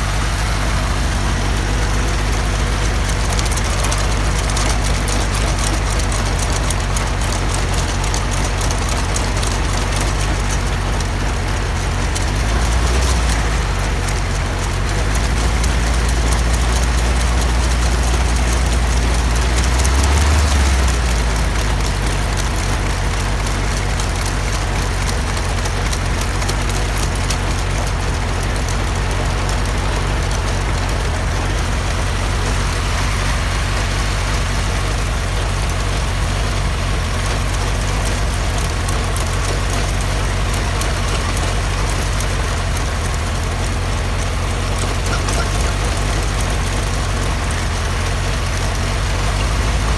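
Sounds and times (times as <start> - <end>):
helicopter engine idling: 0.0 - 49.9.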